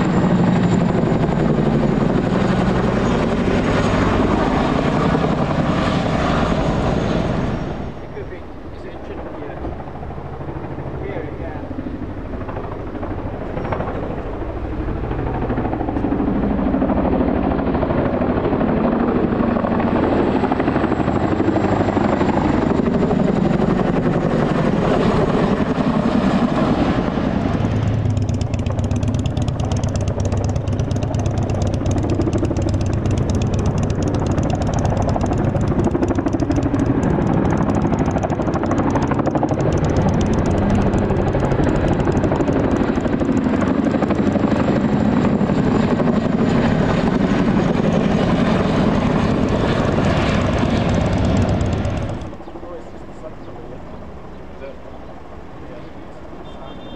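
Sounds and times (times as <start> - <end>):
helicopter rotors beating: 0.0 - 56.9.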